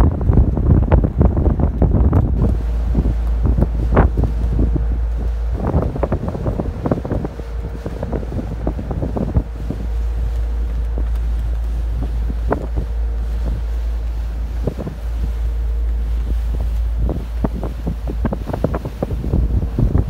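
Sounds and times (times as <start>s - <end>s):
ferry low rumble and hum: 0.0s - 20.0s
wind buffeting microphone: 0.0s - 20.0s.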